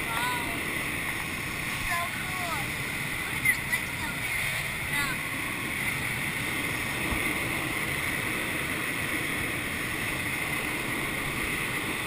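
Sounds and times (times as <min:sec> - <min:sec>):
air rushing over canopy: 0:00.0 - 0:12.0.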